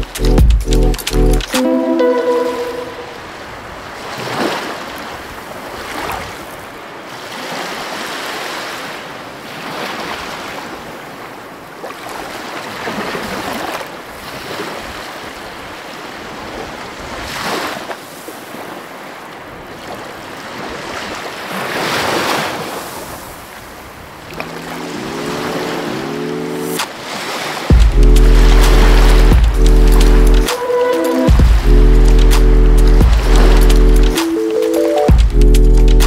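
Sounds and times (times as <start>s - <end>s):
ocean water washing at shoreline: 1.5s - 35.8s.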